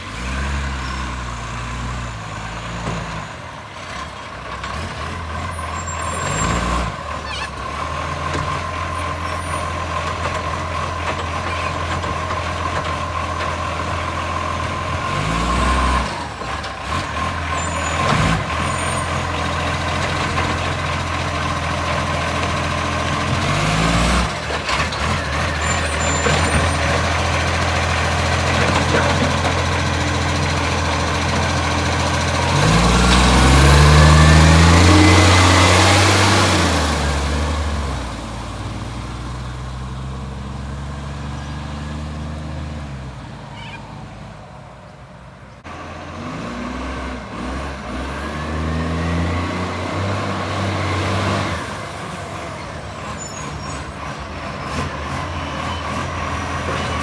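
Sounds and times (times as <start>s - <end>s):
diesel truck engine revving: 0.0s - 44.8s, 45.6s - 57.0s.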